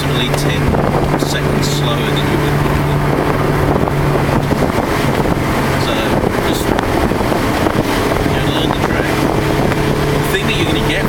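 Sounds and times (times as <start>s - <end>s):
car engine running at speed: 0.0s - 11.0s
wind and road noise: 0.0s - 11.0s.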